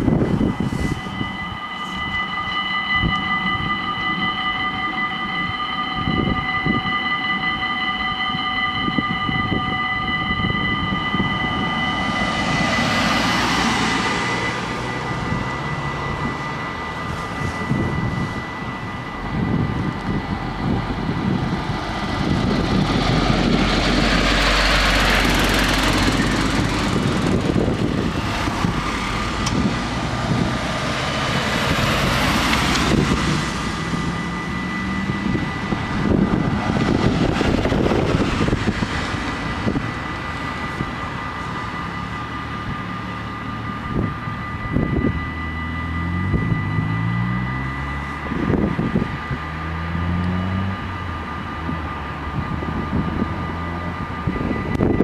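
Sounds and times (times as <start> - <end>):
diesel railcar engine approaching: 0.0 - 55.0
level-crossing warning bells: 0.0 - 55.0
rushing noise: 0.0 - 55.0.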